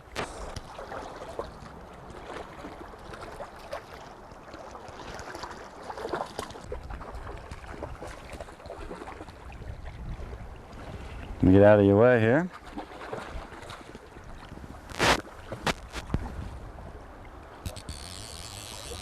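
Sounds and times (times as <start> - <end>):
creek water flowing: 0.0 - 19.0
short splashes and knocks: 0.1 - 11.3, 12.5 - 16.6.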